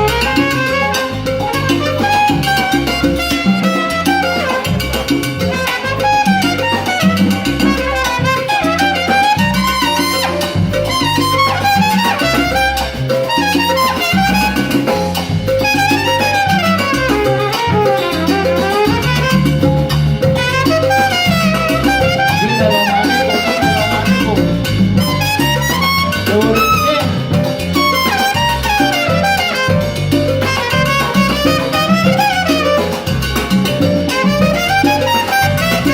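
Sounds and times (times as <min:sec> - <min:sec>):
brass melody: 0:00.0 - 0:35.9
salsa band playing: 0:00.0 - 0:35.9.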